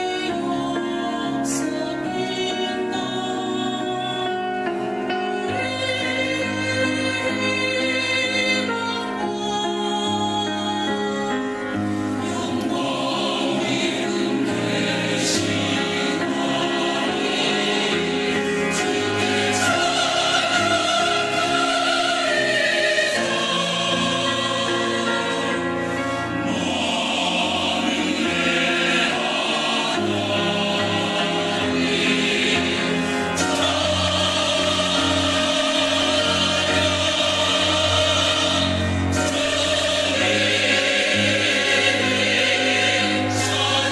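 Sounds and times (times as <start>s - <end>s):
church choir singing: 0.0s - 43.9s
instrumental accompaniment: 0.0s - 43.9s.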